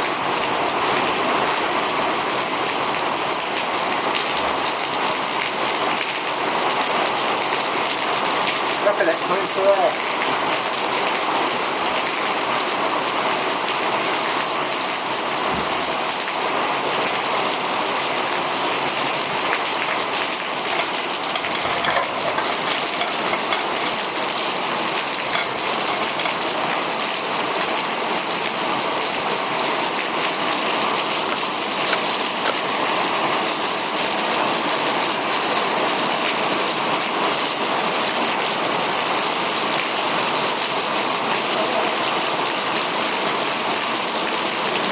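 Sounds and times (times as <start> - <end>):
torrential rain hissing: 0.0 - 44.9.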